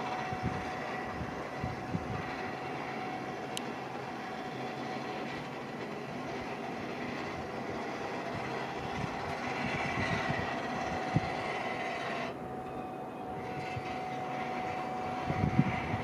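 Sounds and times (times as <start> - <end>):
distant jet engine rumble: 0.0 - 16.0
wind buffeting microphone: 0.0 - 16.0.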